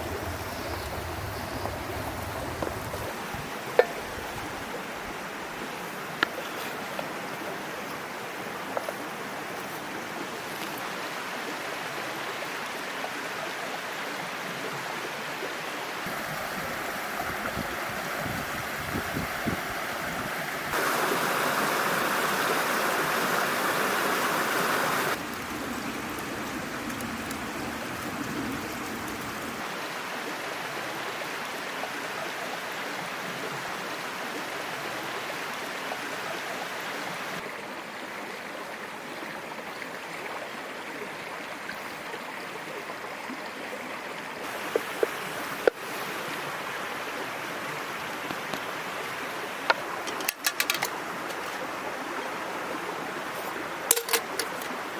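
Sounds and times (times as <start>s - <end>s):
mountain stream flowing: 0.0s - 54.9s.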